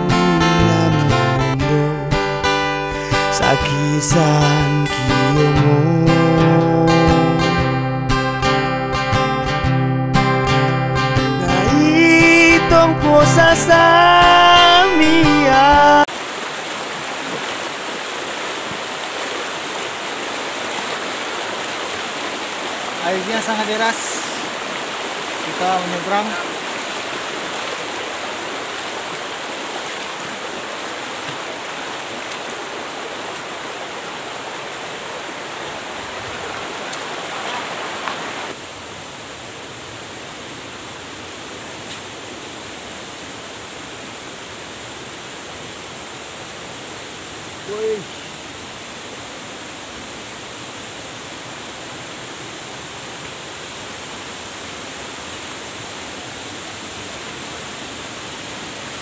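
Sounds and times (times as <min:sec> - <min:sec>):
river water rushing over rocks: 0:11.0 - 0:59.0.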